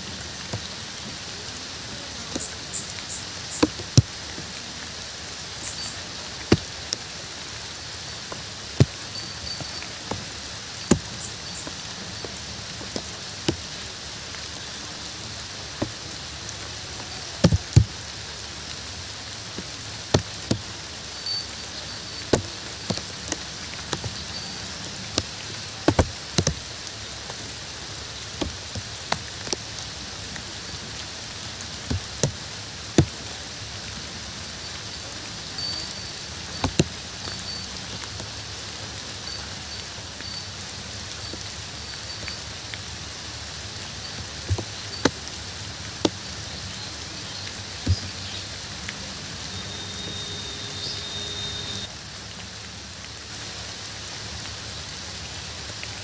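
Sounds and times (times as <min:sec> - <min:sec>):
large raindrops tapping: 0:00.0 - 0:56.0
steady rain hiss: 0:00.0 - 0:56.0.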